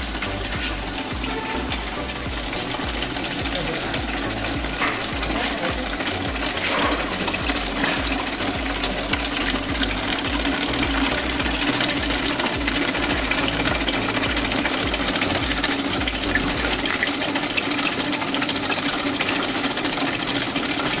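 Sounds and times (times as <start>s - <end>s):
water splashing into plastic bottle: 0.0s - 18.5s.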